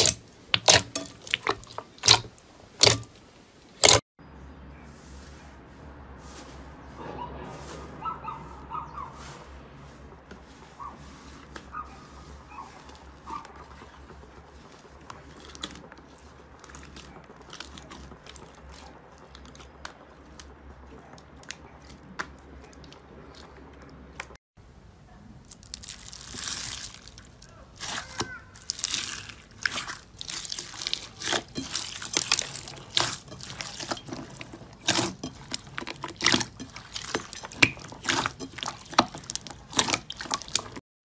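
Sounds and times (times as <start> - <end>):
slime squishing and crackling: 0.0 - 4.0, 10.5 - 24.4, 25.5 - 40.8.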